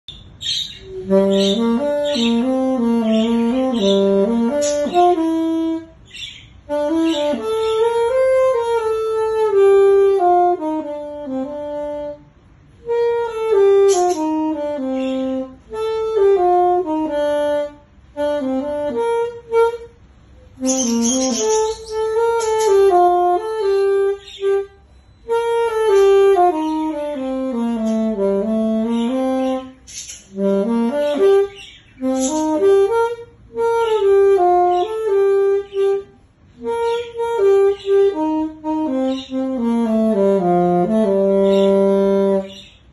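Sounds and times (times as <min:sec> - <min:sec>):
solo alto saxophone melody: 0:00.4 - 0:42.9.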